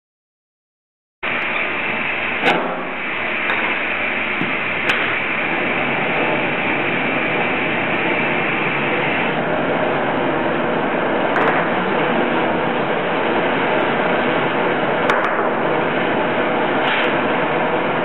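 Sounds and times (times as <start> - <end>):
gas torch hissing: 1.3 - 18.0.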